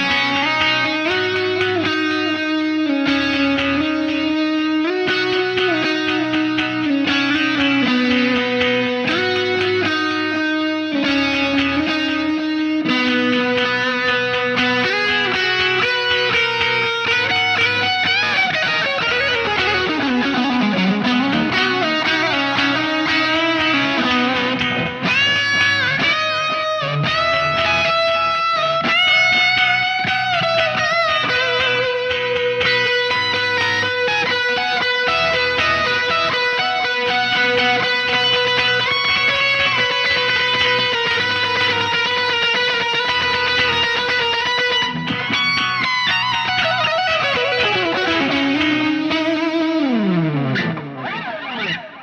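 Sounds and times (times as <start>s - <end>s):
electric guitar solo: 0.0s - 52.0s.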